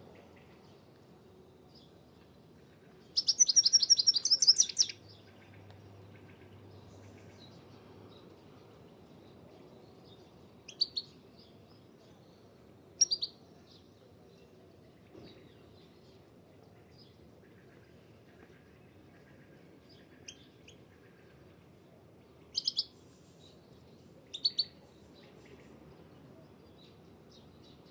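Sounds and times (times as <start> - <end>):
songbird chirping: 0.0 - 27.9.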